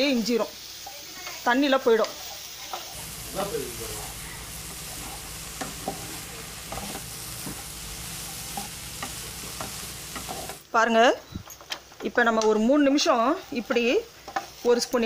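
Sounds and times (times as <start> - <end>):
food sizzling in oil: 0.0 - 11.3, 12.1 - 15.0.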